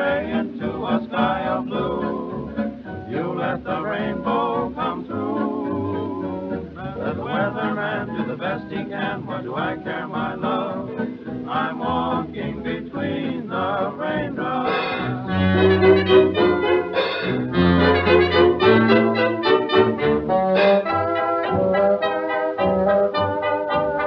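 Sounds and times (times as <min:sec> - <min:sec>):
old dance band foxtrot recording: 0:00.0 - 0:24.0.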